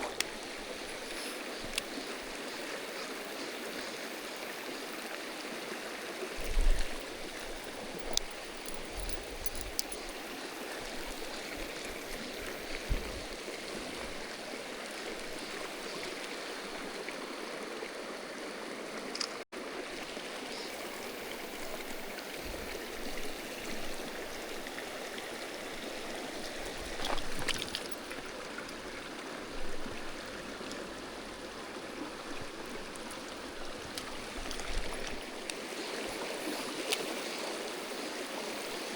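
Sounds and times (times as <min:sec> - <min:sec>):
stream water rushing over rocks: 0:00.0 - 0:38.9.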